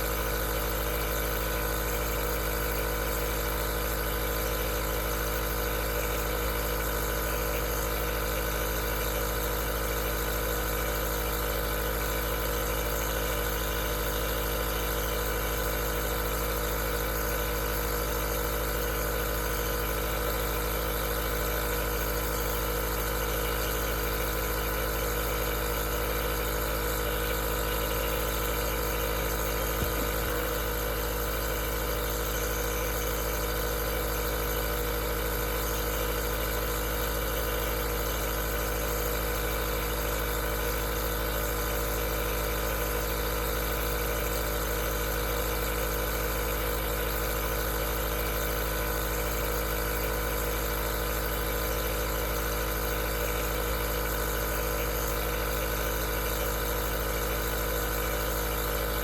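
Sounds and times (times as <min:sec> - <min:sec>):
compressor humming: 0:00.0 - 0:59.0.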